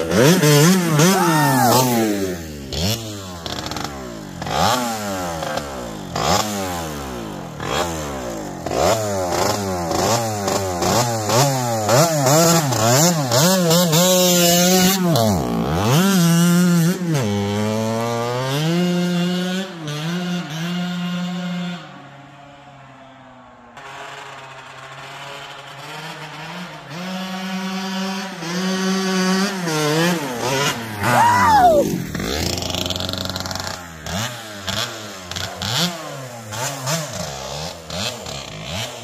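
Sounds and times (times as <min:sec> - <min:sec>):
dirt bike engine revving: 0:00.0 - 0:21.8, 0:25.1 - 0:39.0.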